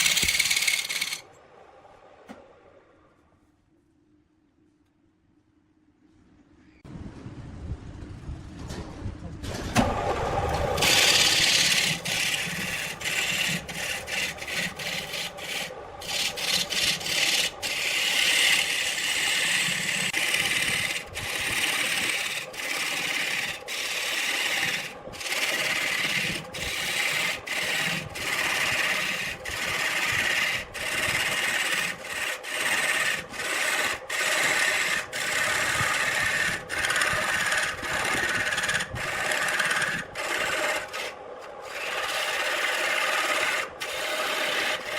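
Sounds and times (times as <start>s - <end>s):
wood scraping on a lathe: 0.0s - 1.2s, 9.8s - 44.9s.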